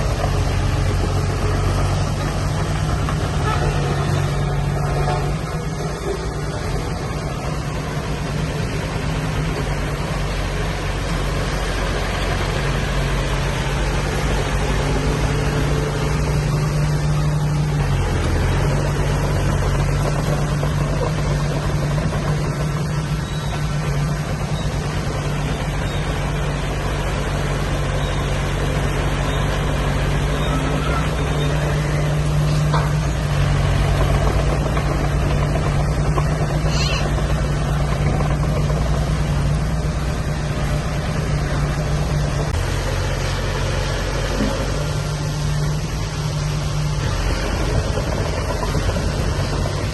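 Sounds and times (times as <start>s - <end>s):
diesel machinery engine under load: 0.0s - 49.9s.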